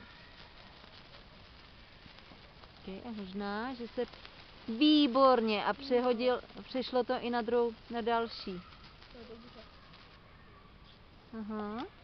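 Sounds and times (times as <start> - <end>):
sparkler fizzing and crackling: 0.0 - 12.0.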